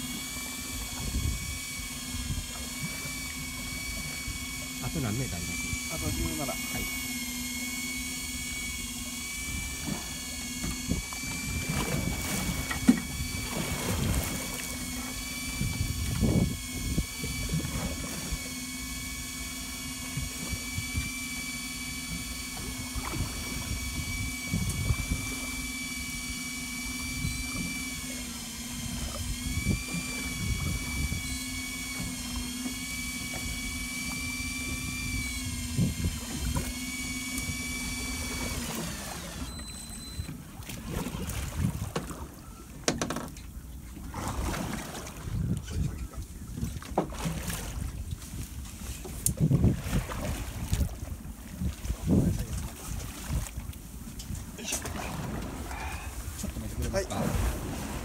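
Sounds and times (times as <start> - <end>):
boat engine humming: 0.0 - 58.0
water splashing against hull: 0.0 - 58.0.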